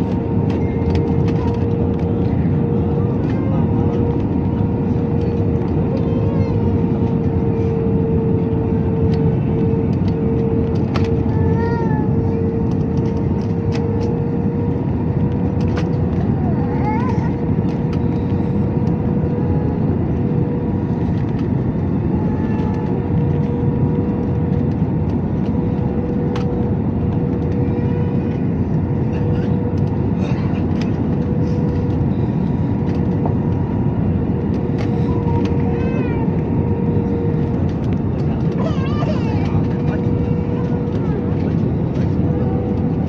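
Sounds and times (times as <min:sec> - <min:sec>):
airliner cabin roar: 0:00.0 - 0:43.0.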